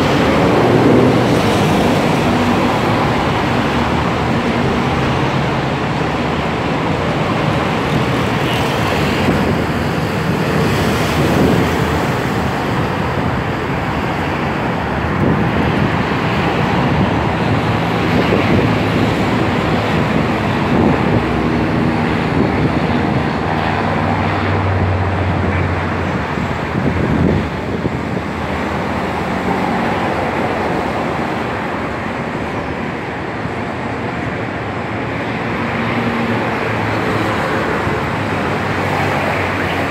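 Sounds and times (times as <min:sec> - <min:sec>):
traffic engine hum: 0:00.0 - 0:39.9.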